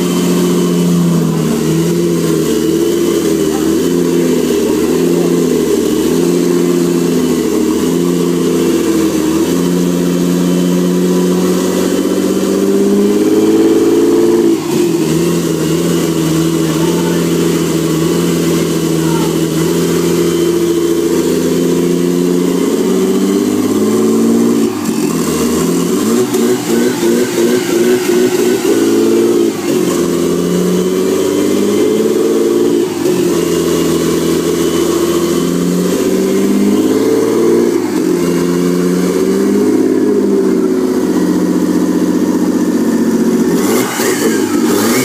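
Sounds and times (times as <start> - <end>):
car engine revving loudly: 0.0 - 45.0.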